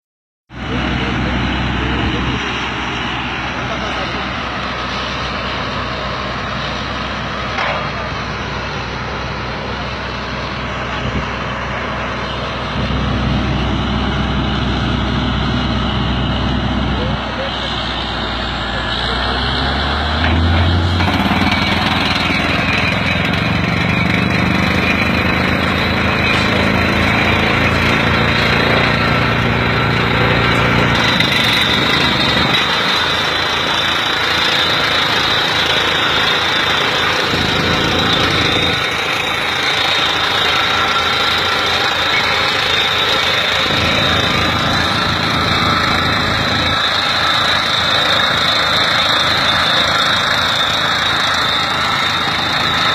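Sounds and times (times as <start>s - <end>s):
drilling rig hammering rattle: 0.6s - 52.9s
tractor engine under load: 0.6s - 52.9s.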